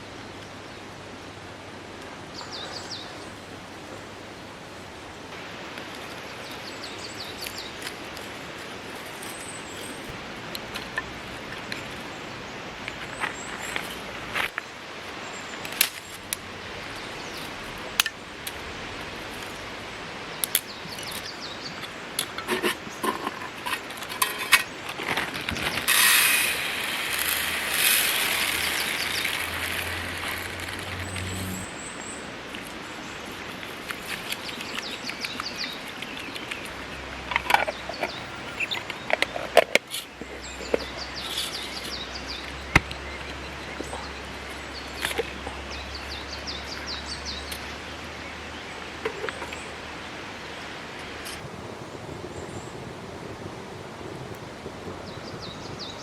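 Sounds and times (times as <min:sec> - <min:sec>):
rustling hiss: 0:00.0 - 0:52.8
outdoor background noise: 0:00.0 - 0:56.0.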